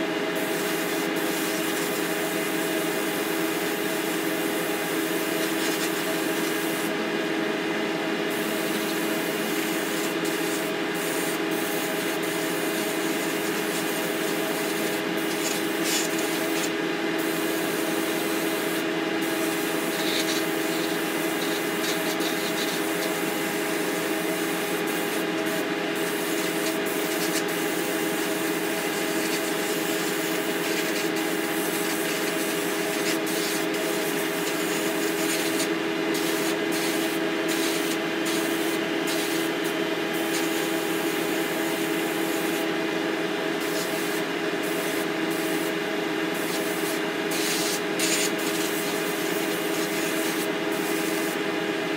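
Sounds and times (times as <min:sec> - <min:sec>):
exhaust fan droning: 0:00.0 - 0:51.9
spray gun hissing: 0:00.4 - 0:06.9, 0:08.3 - 0:42.6, 0:43.6 - 0:45.7, 0:46.4 - 0:51.4.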